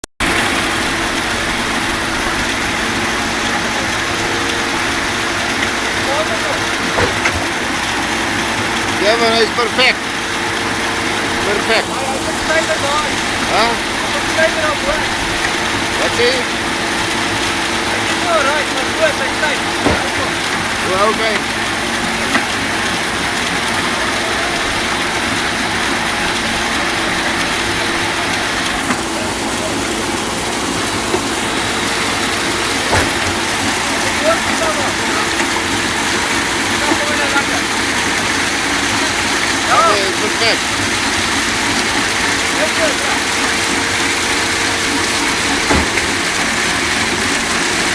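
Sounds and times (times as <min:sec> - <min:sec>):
heavy machinery engine running: 0:00.0 - 0:47.9.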